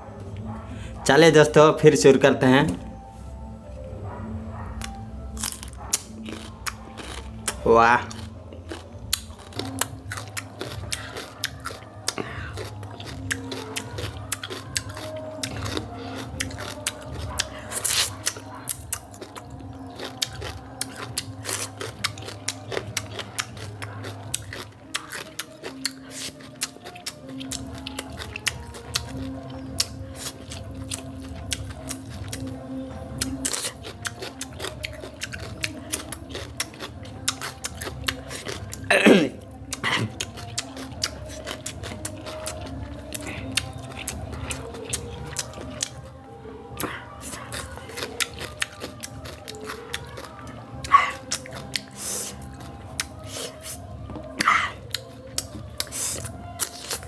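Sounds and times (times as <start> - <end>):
person chewing crunchy food: 4.1 - 57.0
wet mouth noises: 4.8 - 32.6, 33.2 - 46.0, 46.8 - 57.0.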